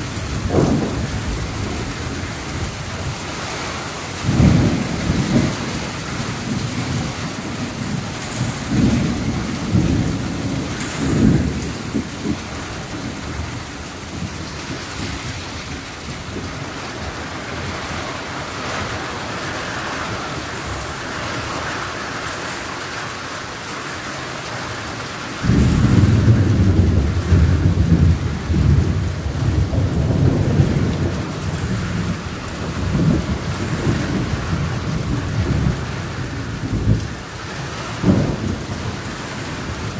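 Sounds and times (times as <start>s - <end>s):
thunder rumbling: 0.0s - 22.3s, 25.3s - 39.9s
heavy rain pouring: 0.0s - 39.9s.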